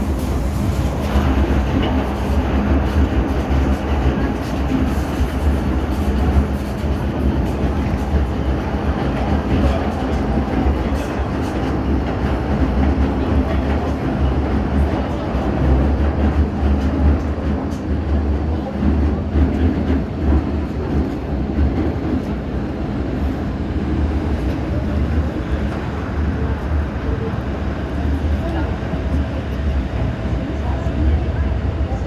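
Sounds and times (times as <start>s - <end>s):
train wheels rumbling in tunnel: 0.0s - 32.0s.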